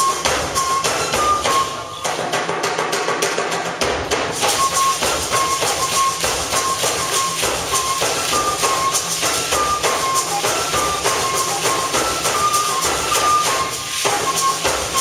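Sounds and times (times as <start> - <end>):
flute melody: 0.0 - 2.6, 4.4 - 15.0
rapid drums and rattles: 0.0 - 15.0.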